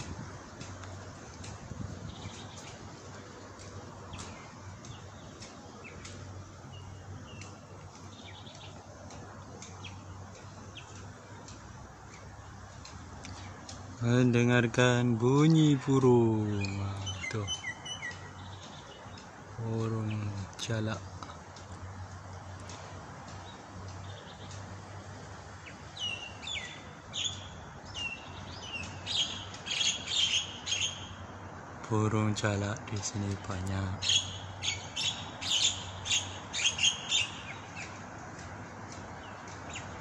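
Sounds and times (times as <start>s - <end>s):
starlings chirping: 0.0s - 40.0s.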